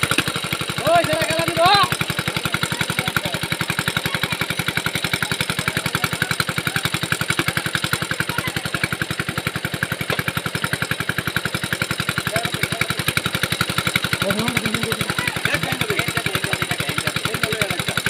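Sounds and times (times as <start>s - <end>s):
small engine thumping steadily: 0.0s - 18.0s.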